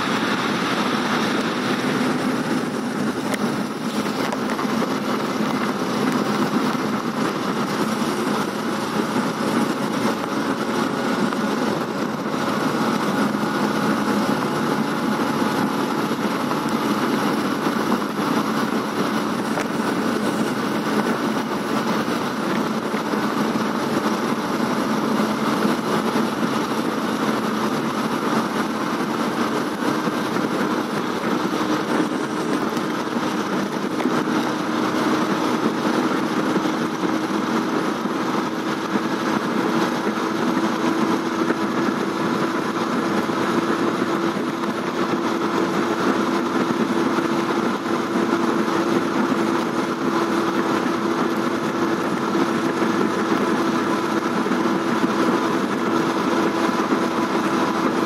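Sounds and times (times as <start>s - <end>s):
engine and road noise inside vehicle: 0.0s - 58.0s.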